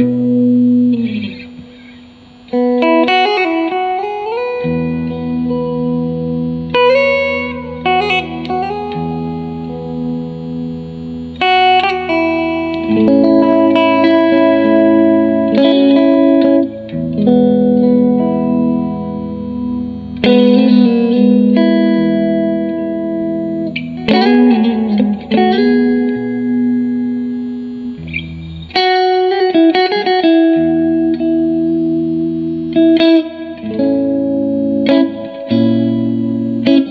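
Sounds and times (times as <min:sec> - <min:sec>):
clean electric guitar chords: 0:00.0 - 0:36.9.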